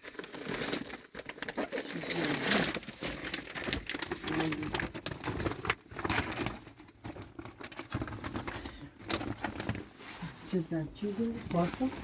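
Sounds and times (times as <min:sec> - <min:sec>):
objects being handled: 0:00.0 - 0:12.0.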